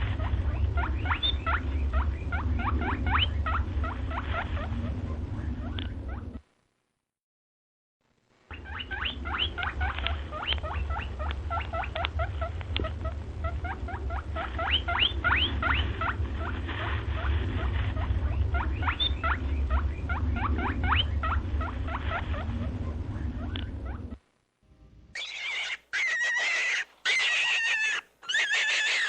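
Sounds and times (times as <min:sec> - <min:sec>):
small animal squeaking: 0:00.0 - 0:05.0, 0:08.5 - 0:24.2, 0:25.2 - 0:29.0
steady low hum: 0:00.0 - 0:07.1, 0:08.0 - 0:26.0.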